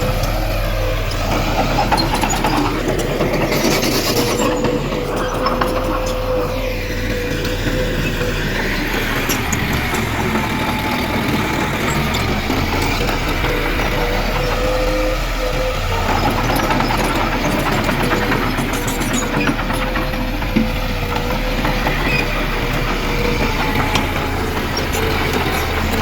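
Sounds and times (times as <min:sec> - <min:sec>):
diesel engine rumble: 0:00.0 - 0:26.0
machinery whine: 0:00.0 - 0:26.0.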